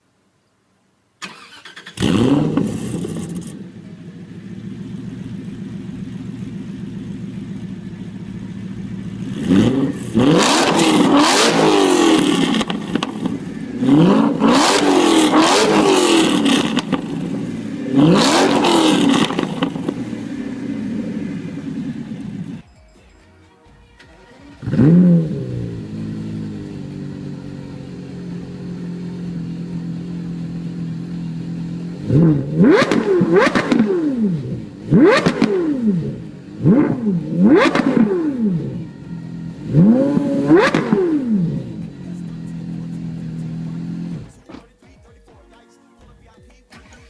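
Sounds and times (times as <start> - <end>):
car engine revving and idling: 1.2 - 22.6, 24.2 - 44.7.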